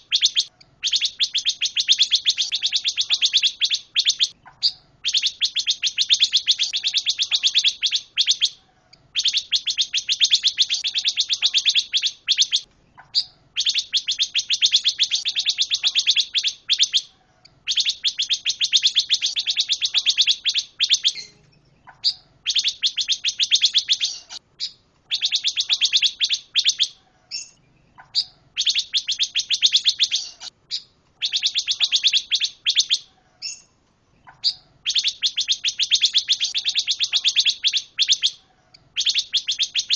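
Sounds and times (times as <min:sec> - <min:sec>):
songbird chattering trills: 0:00.0 - 0:39.9.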